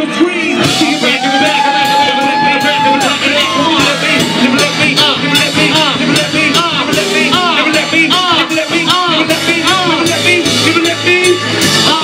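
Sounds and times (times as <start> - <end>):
hip-hop backing music: 0.0 - 12.0.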